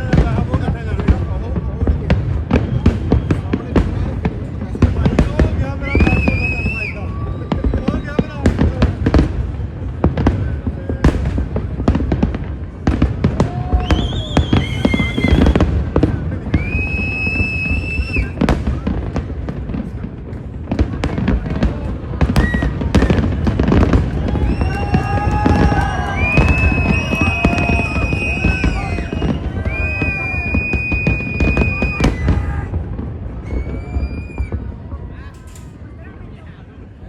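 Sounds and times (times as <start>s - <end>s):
fireworks bursting: 0.0s - 34.9s.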